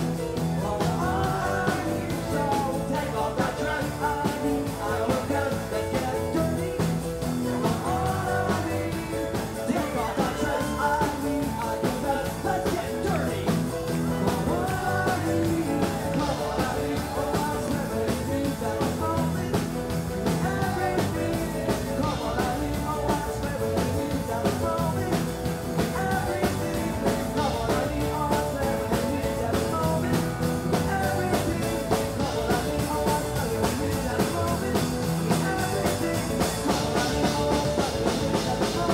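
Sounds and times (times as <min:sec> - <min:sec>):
bass guitar: 0:00.0 - 0:38.9
drum kit: 0:00.0 - 0:38.9
electric guitars: 0:00.0 - 0:38.9
lead vocal singing: 0:00.0 - 0:38.9.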